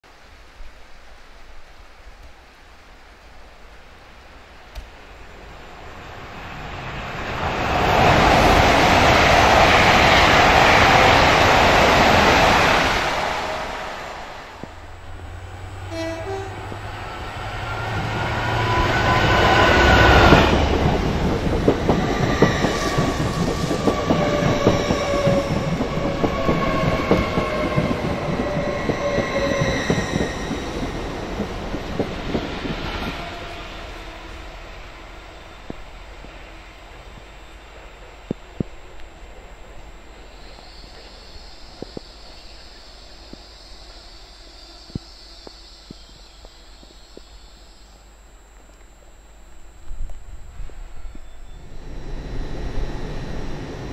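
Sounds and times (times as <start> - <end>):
diesel locomotive engine drone: 3.7 - 53.9
passenger train rushing past: 5.0 - 45.8, 50.3 - 53.9.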